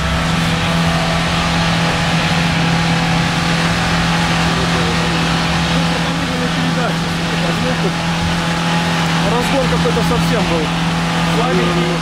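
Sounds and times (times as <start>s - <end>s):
engine running under load: 0.0s - 12.0s.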